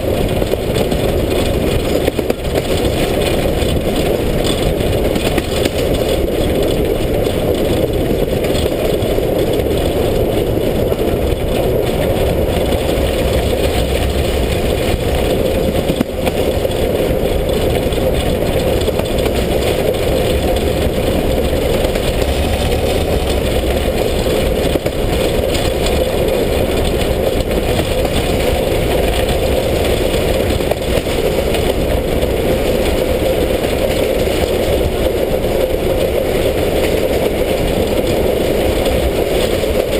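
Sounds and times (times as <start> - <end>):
steam locomotive exhaust rushing: 0.0 - 39.9.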